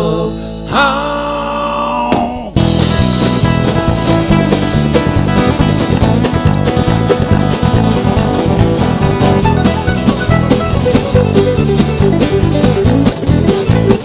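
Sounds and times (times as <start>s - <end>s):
banjo: 2.6s - 14.0s
country bluegrass music: 2.6s - 14.0s
plucked guitar: 2.6s - 14.0s.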